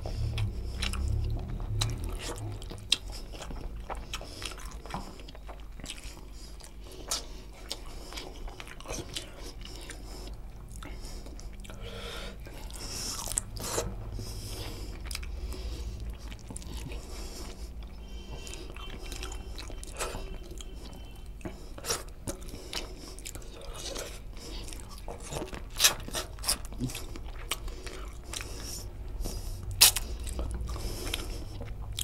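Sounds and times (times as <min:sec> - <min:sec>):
close chewing mouth sounds: 0:00.0 - 0:32.0.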